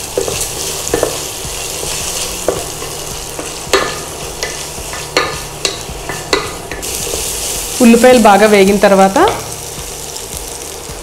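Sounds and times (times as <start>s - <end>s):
onions sizzling in hot fat: 0.0s - 11.0s.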